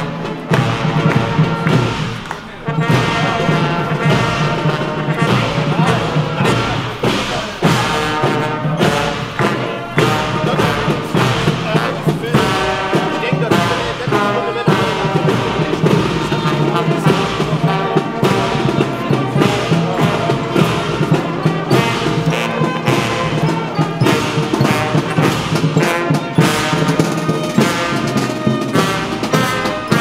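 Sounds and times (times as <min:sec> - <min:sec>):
marching brass band playing: 0:00.0 - 0:30.0.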